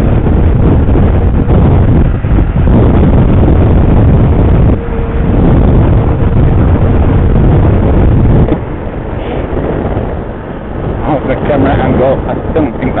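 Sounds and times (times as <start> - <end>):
motorcycle engine: 0.0 - 11.4
wind rush on microphone: 0.0 - 13.0.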